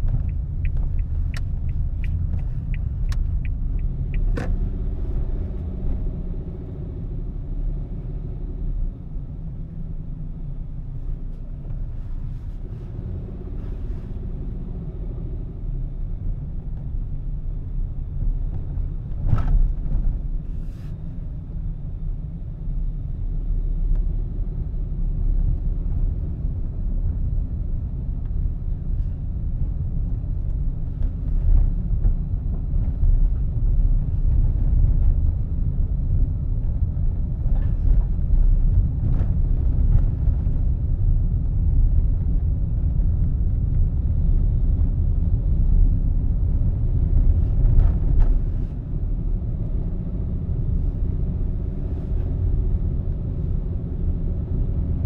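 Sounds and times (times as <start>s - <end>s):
car tyres and engine rumble: 0.0s - 55.0s.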